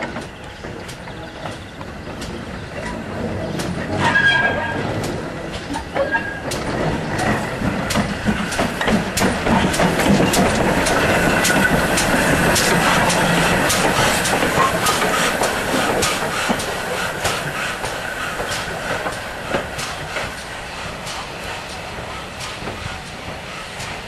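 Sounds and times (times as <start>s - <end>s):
clanks and clicks from wheels: 0.0s - 24.0s
steam locomotive running slowly: 0.0s - 24.0s.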